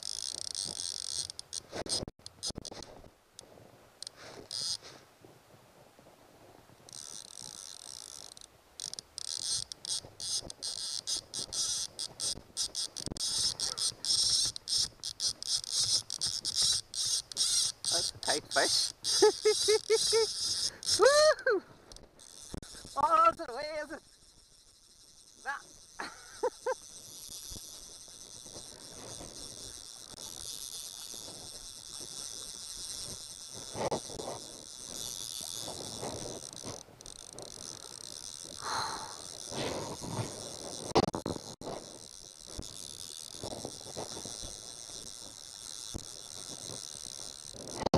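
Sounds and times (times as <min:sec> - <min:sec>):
insects chirring: 0:00.0 - 0:02.8, 0:04.0 - 0:04.9, 0:06.9 - 0:47.9
fishing reel ratchet buzzing: 0:00.0 - 0:03.0, 0:04.0 - 0:04.8, 0:06.8 - 0:47.9.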